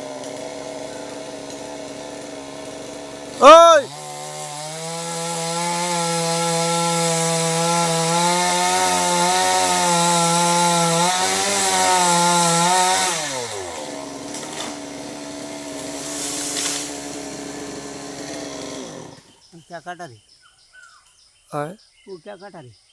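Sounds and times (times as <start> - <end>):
chainsaw cutting wood: 0.0 - 19.5.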